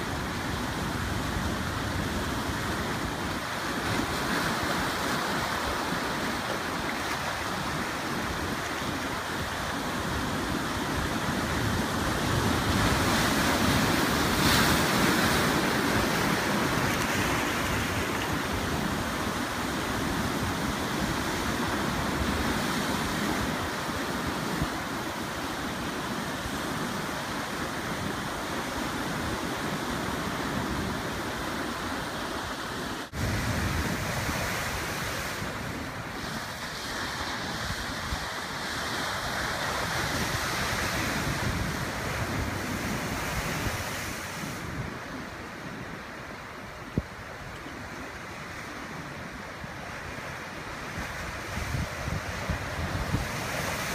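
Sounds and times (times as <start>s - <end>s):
ocean surf washing ashore: 0.0s - 53.9s.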